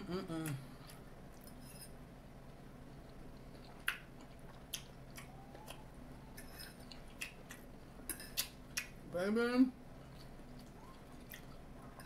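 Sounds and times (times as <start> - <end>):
faint low hum: 0.0 - 12.0
person chewing noodles: 0.2 - 1.9, 2.5 - 9.0, 9.9 - 12.0.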